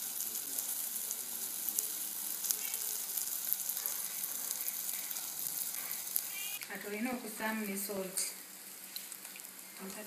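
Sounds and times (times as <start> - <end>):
grasshoppers sizzling in frying: 0.0 - 10.0.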